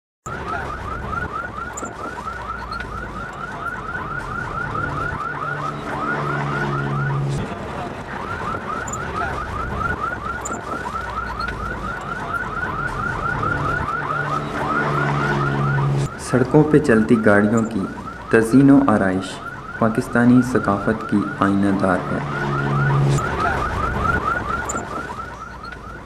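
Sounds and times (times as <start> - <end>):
vehicle alarm warbling chirps: 0.3 - 26.0.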